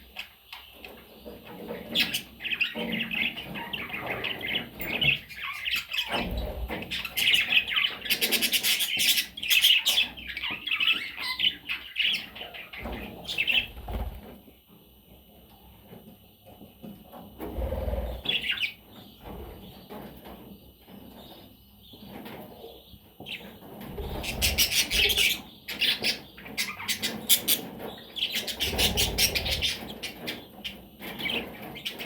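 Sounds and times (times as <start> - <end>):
budgerigars chattering and chirping: 0.0 - 14.2, 17.5 - 20.4, 21.1 - 32.0.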